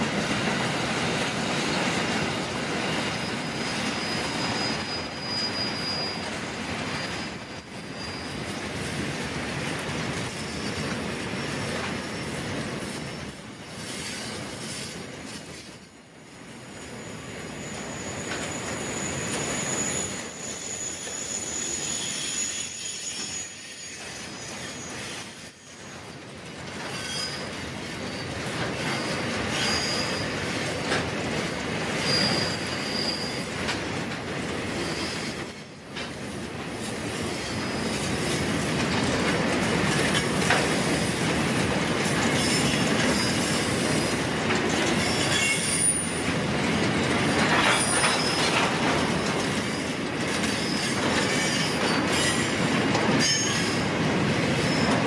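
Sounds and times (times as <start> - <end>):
high-pitched wheel squeals: 0.0 - 38.5, 40.0 - 46.3, 47.5 - 53.9
steel wheels rumbling on rails: 0.0 - 55.0.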